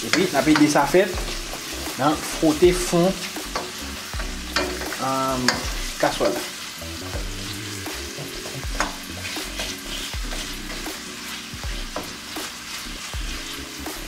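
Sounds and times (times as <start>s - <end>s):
wooden spatula scraping metal pan: 0.0s - 6.6s, 7.6s - 13.8s
onions sizzling in hot oil: 0.0s - 14.0s.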